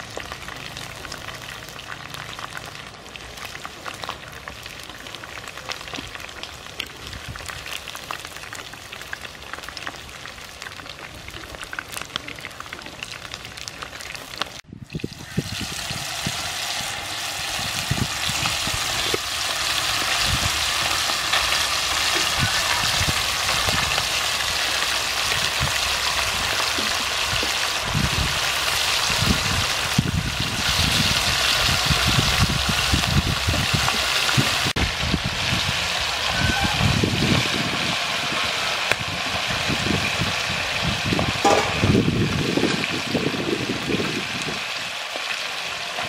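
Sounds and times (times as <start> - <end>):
deep-frying sizzle with pops: 0.0 - 46.0.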